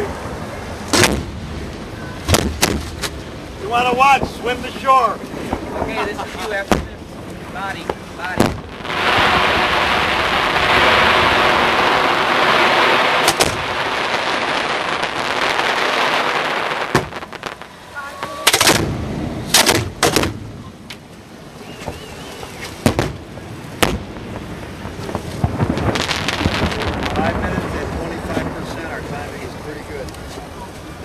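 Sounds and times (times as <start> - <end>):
fireworks hissing and crackling: 0.0 - 31.0
firework shells bursting: 2.2 - 5.9, 6.6 - 28.7.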